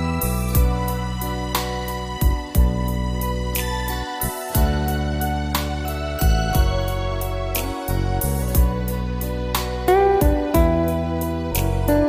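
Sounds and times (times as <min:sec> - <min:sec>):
electric piano: 0:00.0 - 0:12.0
held bass line: 0:00.0 - 0:12.0.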